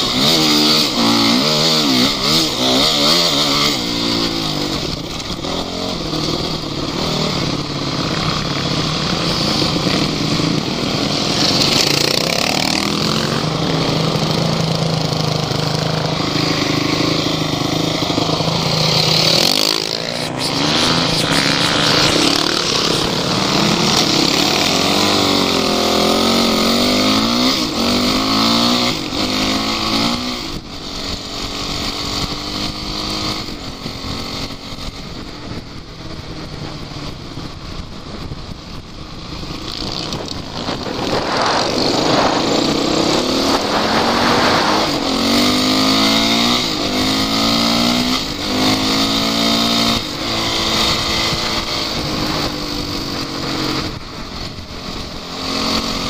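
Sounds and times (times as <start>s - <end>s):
off-road vehicle engine revving: 0.0s - 35.2s, 39.6s - 56.0s.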